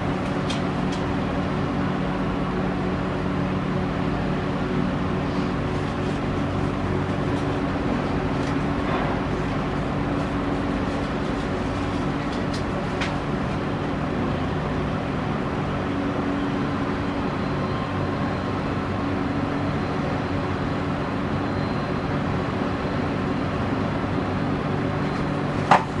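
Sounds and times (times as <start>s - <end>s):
heavy diesel engines running: 0.0s - 26.0s.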